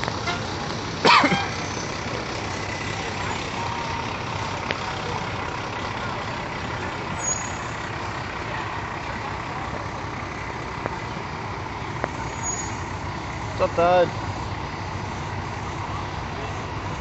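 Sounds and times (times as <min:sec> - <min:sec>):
diesel fire truck engines: 0:00.0 - 0:17.0.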